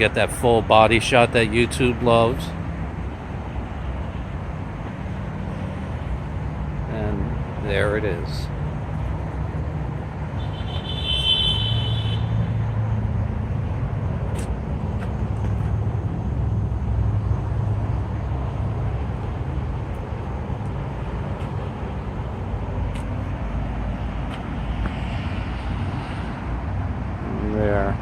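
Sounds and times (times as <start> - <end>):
low vehicle rumble: 0.0 - 28.0.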